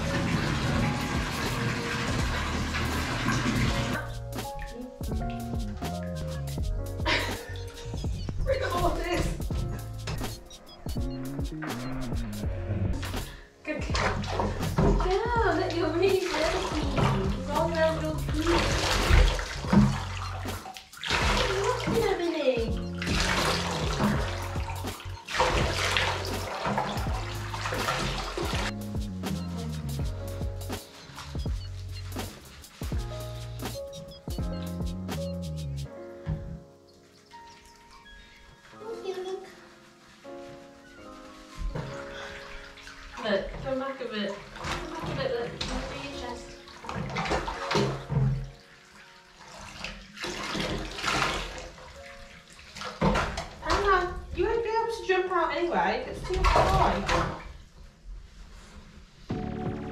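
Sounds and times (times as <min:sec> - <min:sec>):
water splashing into bath: 0:00.0 - 0:35.2, 0:36.2 - 0:57.9
background music: 0:00.0 - 0:55.8, 0:59.3 - 0:59.9.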